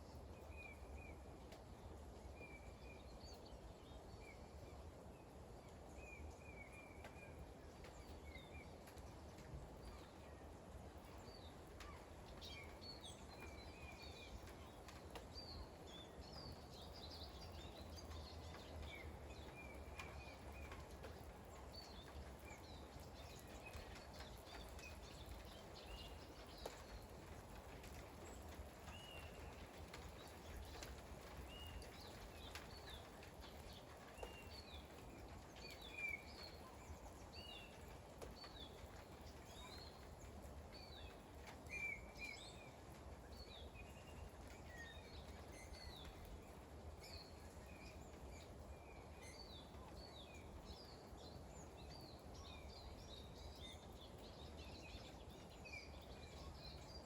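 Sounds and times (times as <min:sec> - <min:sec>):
light rain: 0:00.0 - 0:57.0
small birds chirping: 0:11.0 - 0:57.0.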